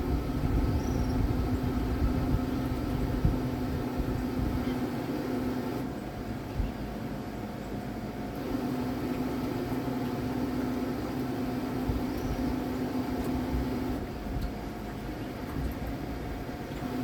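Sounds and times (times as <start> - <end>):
electric boat motor humming: 0.0 - 6.3, 8.3 - 17.0
low rumbling noise: 0.0 - 17.0.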